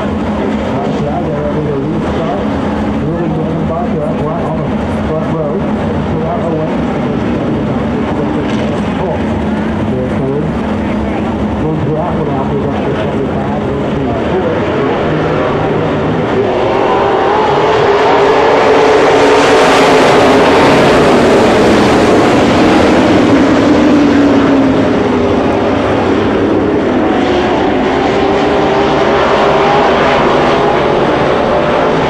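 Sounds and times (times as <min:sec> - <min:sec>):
race car engines racing: 0:00.0 - 0:32.0.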